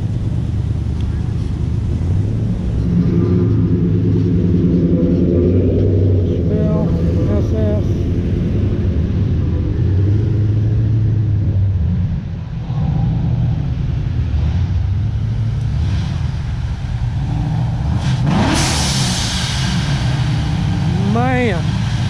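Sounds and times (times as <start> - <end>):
car engine revving: 0.0 - 22.0
classic car engines rumbling: 0.0 - 22.0.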